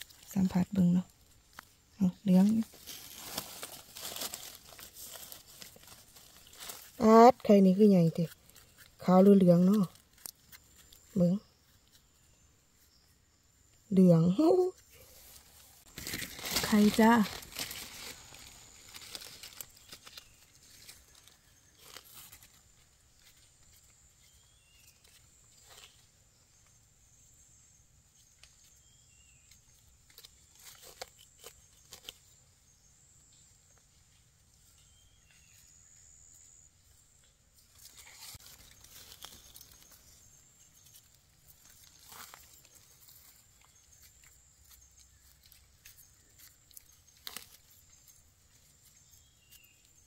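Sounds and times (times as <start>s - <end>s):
knife scraping soil and leaves: 0.0s - 13.1s, 14.5s - 26.8s, 28.2s - 32.9s, 34.8s - 50.0s
rustling: 0.0s - 13.1s, 14.4s - 26.8s, 28.2s - 32.4s, 33.7s - 50.0s.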